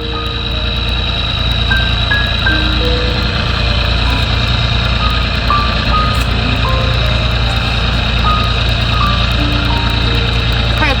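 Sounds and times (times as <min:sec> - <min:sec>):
beeping background music: 0:00.0 - 0:11.0
low hum: 0:00.0 - 0:11.0.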